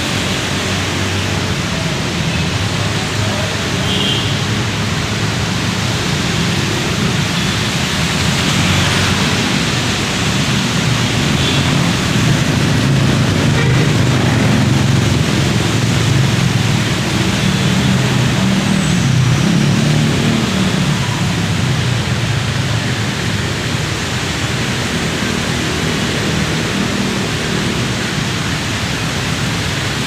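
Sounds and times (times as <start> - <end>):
traffic rushing through rain: 0.0 - 30.0.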